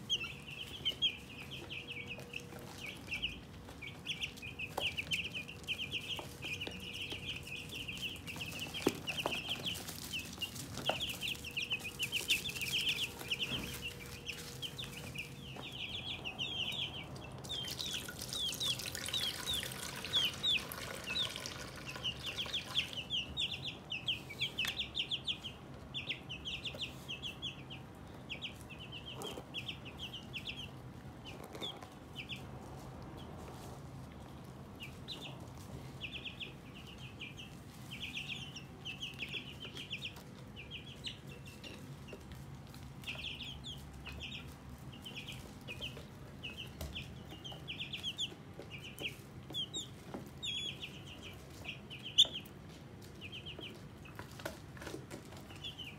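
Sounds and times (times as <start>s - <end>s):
chicks peeping: 0.0s - 55.9s.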